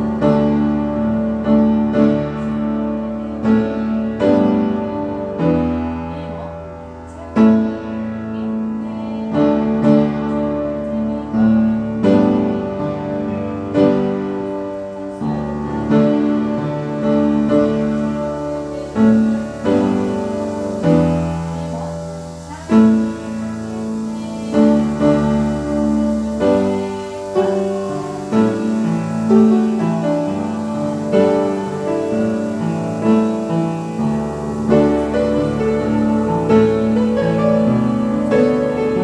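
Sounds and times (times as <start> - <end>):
piano playing slow chords: 0.0 - 39.0.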